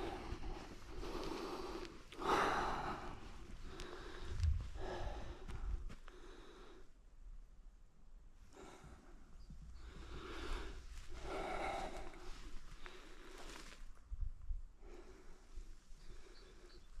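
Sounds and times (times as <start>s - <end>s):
man breathing heavily: 0.0s - 7.0s, 8.5s - 13.8s, 14.8s - 16.8s.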